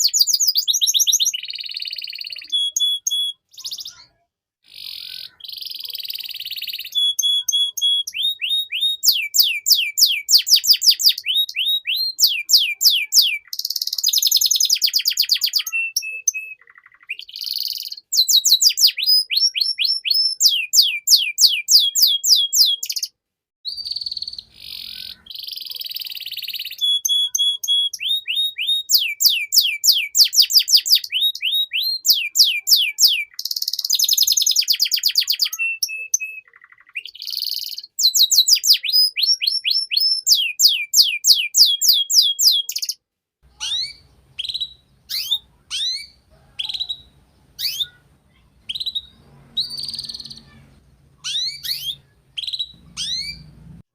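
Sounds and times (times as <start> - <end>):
canary singing: 0.0 - 53.8.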